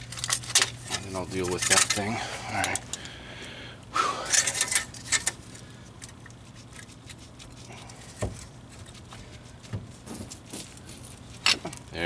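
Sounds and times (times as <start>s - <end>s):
tools and parts clicking and rattling: 0.0s - 3.2s, 4.2s - 12.0s
steady low hum: 0.0s - 12.0s.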